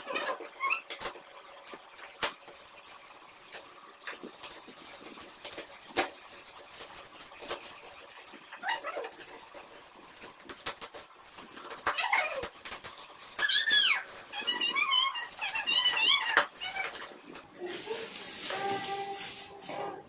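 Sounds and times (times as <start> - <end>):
metallic wrapping crinkling: 2.5 - 20.0.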